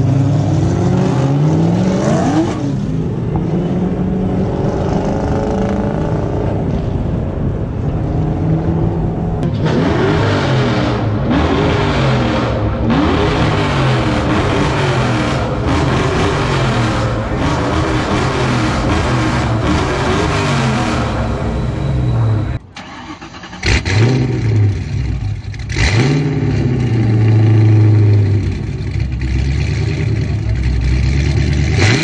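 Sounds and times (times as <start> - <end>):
car engine driving in traffic: 0.0 - 32.0
car engine revving: 0.0 - 32.0.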